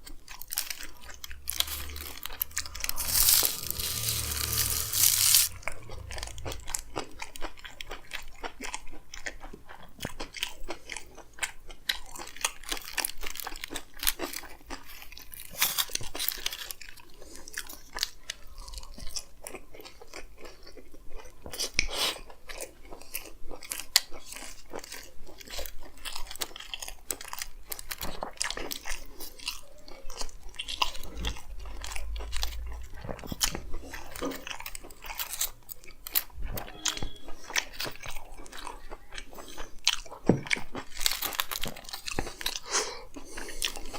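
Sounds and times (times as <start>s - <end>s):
chewing food: 0.0s - 43.9s.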